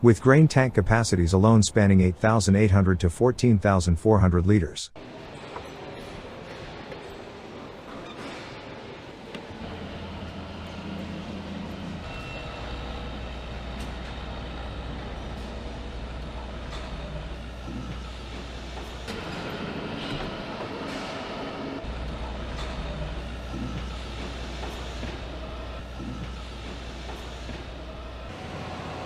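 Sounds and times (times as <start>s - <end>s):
machinery hum: 5.0s - 29.0s.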